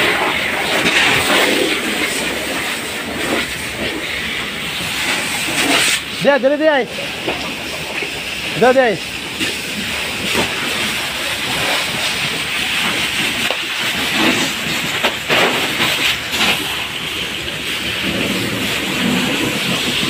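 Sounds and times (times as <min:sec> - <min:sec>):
fire hose water spraying: 0:00.0 - 0:20.0.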